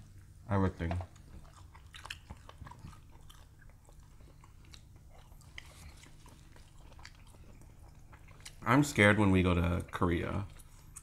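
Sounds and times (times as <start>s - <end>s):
low steady hum: 0.0s - 11.0s
chewing food: 0.8s - 11.0s.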